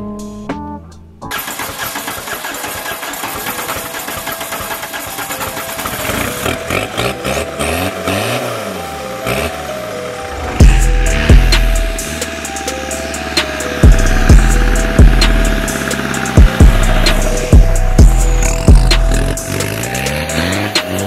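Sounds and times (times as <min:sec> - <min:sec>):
car engine revving: 0:01.3 - 0:21.0.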